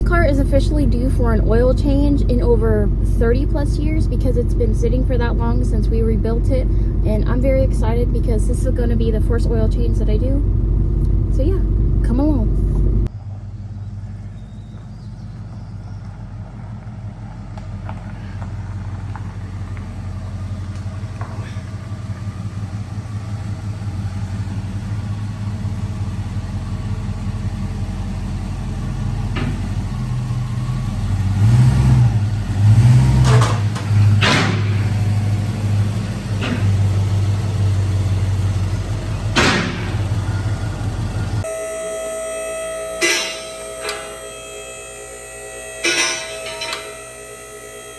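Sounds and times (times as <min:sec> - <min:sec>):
car engine rumbling and revving: 0:00.0 - 0:47.9.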